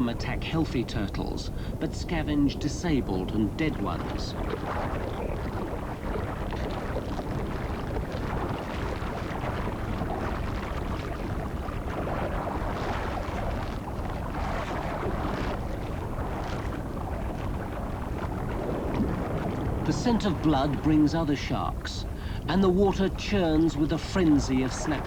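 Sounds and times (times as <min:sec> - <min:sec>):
seawater sloshing in shallows: 0:00.0 - 0:25.0
water splashes: 0:00.0 - 0:25.0.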